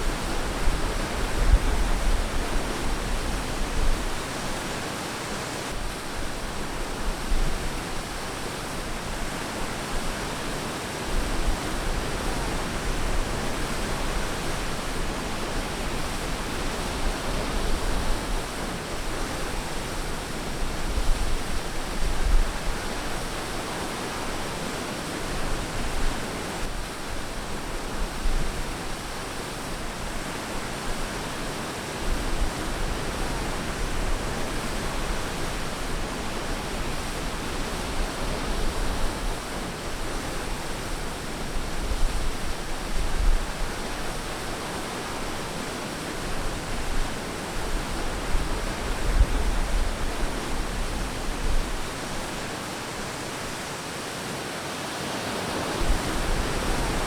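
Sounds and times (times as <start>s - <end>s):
ocean waves on beach: 0.0s - 57.0s.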